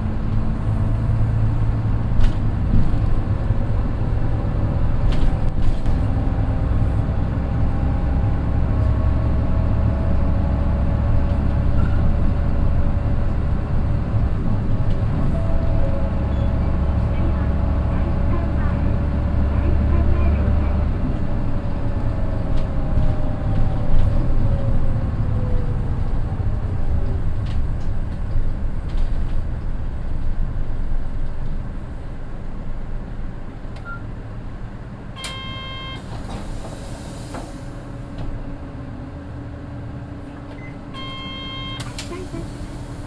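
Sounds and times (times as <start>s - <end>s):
bus engine and gear whine: 0.0s - 43.0s.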